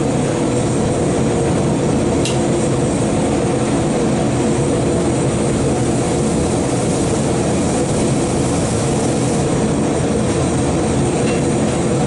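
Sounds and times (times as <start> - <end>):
forge blower roaring: 0.0 - 12.0.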